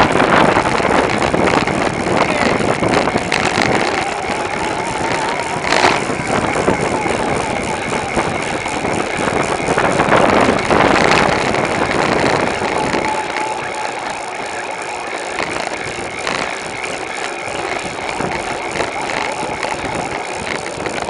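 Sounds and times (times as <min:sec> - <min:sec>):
bicycle road noise: 0:00.0 - 0:21.0
wind noise: 0:00.0 - 0:21.0.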